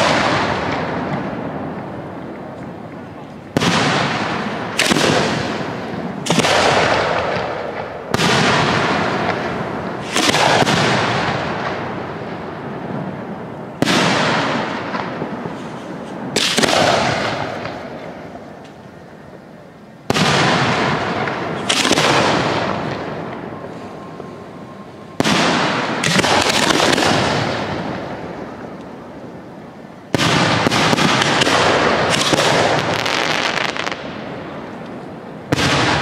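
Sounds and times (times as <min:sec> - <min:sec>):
firework shells booming: 0:00.0 - 0:18.7, 0:20.0 - 0:36.0
rolling echo: 0:00.0 - 0:36.0.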